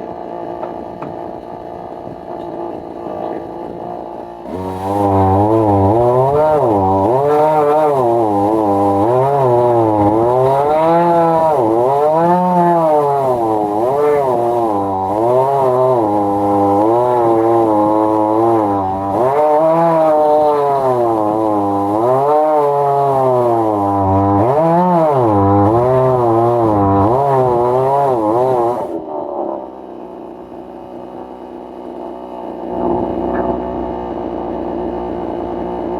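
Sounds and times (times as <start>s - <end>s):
chainsaw milling log: 0.0s - 29.1s.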